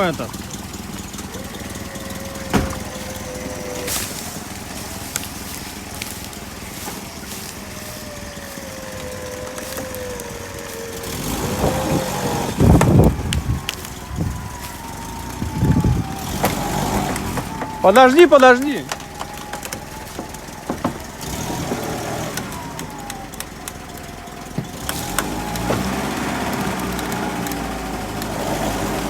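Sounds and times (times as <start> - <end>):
electric winch motor whining: 0.0 - 29.0
heavy knocks and crunching: 0.0 - 29.0
vehicle engine running: 0.0 - 29.0.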